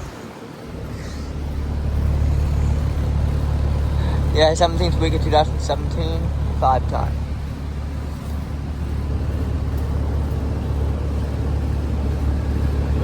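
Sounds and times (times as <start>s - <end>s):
compressor humming: 0.0s - 13.0s
condenser fan rushing: 0.0s - 13.0s.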